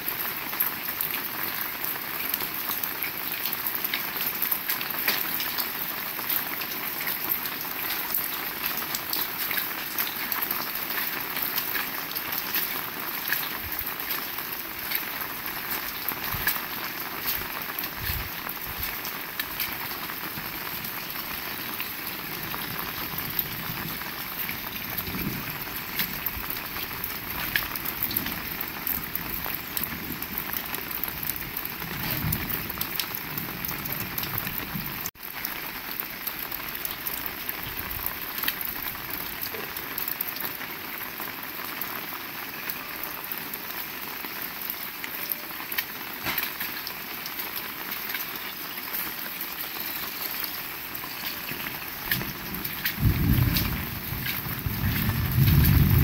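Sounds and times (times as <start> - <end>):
heavy rain: 0.0 - 56.0
raindrops tapping close by: 0.0 - 56.0.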